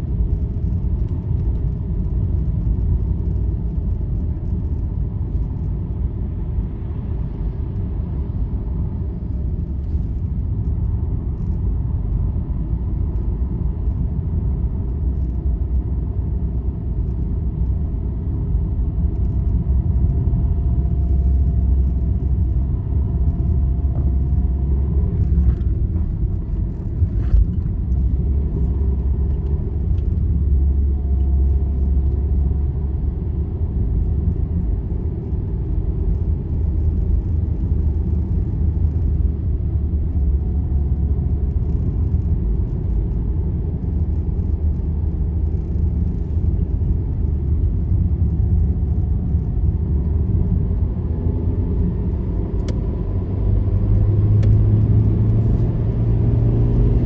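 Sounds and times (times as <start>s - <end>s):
vehicle road rumble: 0.0s - 57.0s.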